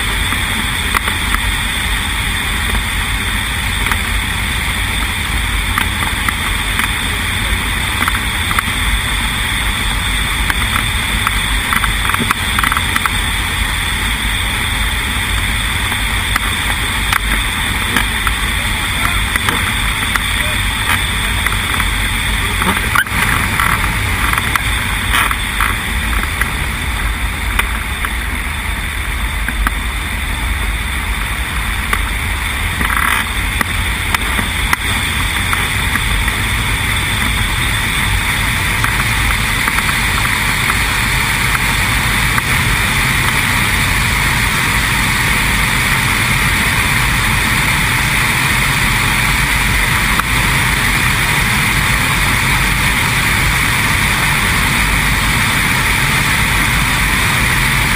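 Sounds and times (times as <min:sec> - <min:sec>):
ultralight engine and air rush: 0:00.0 - 0:57.9.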